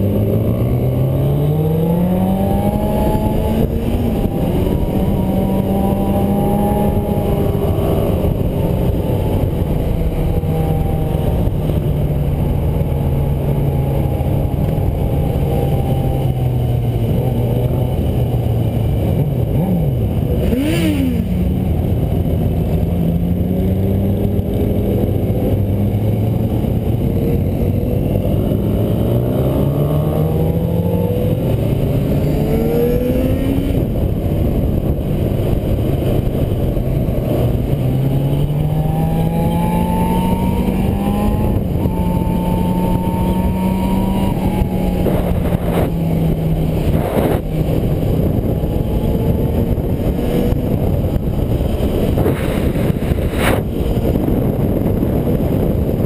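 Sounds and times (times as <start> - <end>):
motorcycle engine accelerating: 0.0 - 56.0
wind noise: 0.0 - 56.0.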